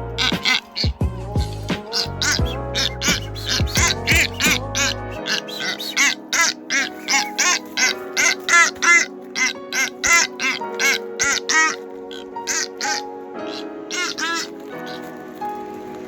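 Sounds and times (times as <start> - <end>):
seabirds calling: 0.0 - 16.0.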